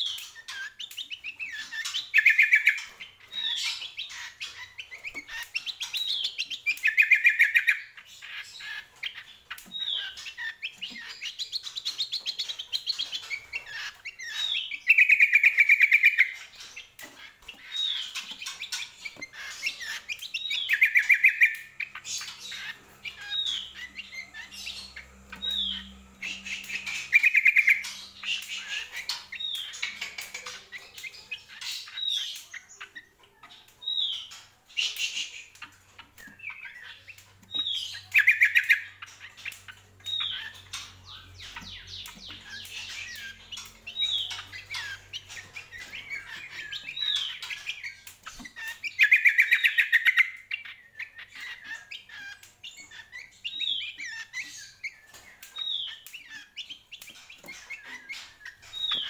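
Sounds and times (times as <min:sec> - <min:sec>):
caged bird singing: 0:00.0 - 0:59.0.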